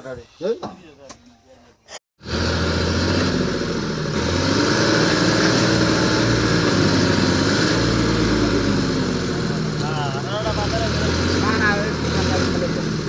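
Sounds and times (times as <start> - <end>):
tractor diesel engine idling: 2.2 - 13.0.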